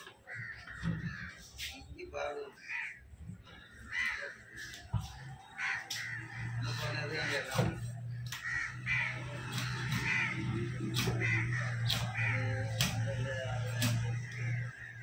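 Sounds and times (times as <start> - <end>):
crows cawing: 0.0 - 1.7, 2.5 - 15.0.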